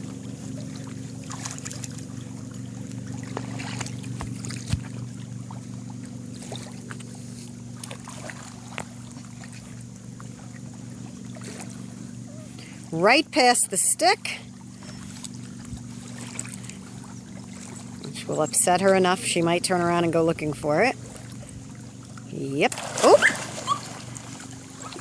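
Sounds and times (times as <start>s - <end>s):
small water splashes: 0.0s - 12.9s, 14.3s - 18.3s, 20.8s - 25.0s
boat engine humming: 0.0s - 25.0s.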